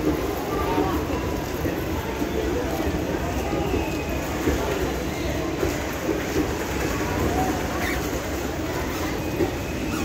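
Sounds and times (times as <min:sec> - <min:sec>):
train wheels on rail: 0:00.0 - 0:10.0.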